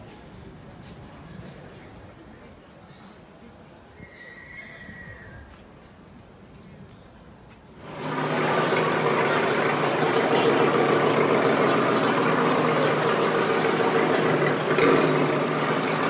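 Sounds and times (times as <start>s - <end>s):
roller coaster cars chattering: 0.0s - 16.0s.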